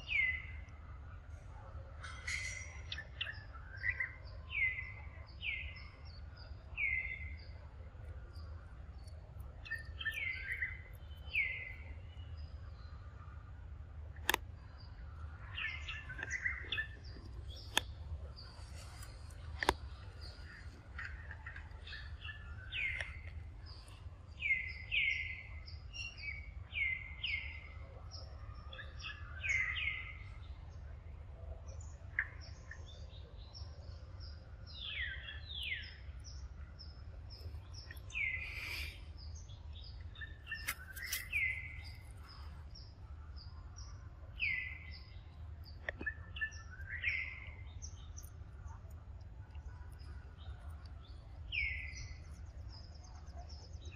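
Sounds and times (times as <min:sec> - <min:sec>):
birds chirping: 0:00.0 - 0:53.9
low background hum: 0:00.0 - 0:53.9.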